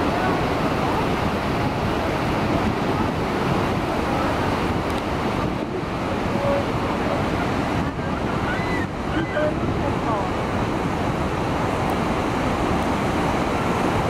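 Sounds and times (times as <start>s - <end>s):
rapids rushing: 0.0s - 14.0s
waterfall roaring: 0.0s - 14.0s
wind buffeting the microphone: 0.0s - 14.0s.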